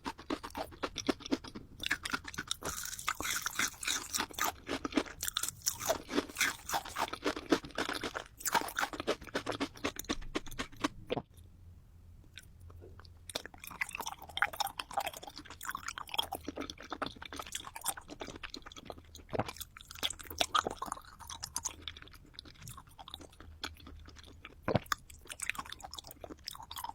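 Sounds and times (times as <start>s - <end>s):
crunching and chewing candy: 0.0s - 11.5s, 12.3s - 26.9s.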